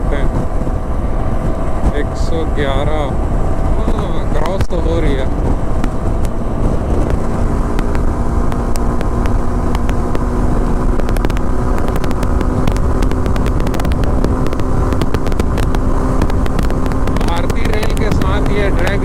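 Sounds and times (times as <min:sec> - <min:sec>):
motorcycle engine running: 0:00.0 - 0:19.0
wind rumble: 0:00.0 - 0:19.0.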